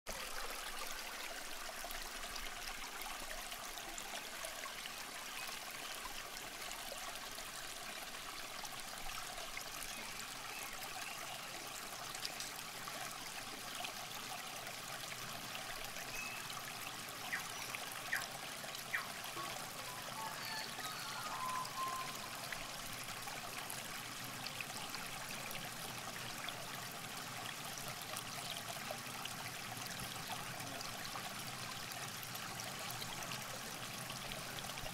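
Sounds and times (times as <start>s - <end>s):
river water trickling: 0.1s - 34.9s.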